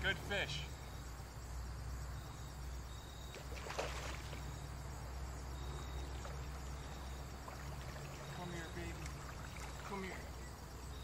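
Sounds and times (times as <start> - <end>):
thin high insect-like tone: 0.0 - 11.0.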